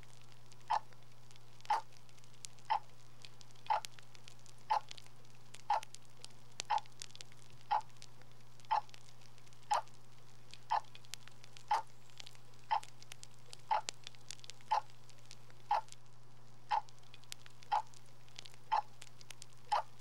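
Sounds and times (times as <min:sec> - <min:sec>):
faint crackling clicks: 0:00.0 - 0:20.0
steady low hum: 0:00.0 - 0:20.0.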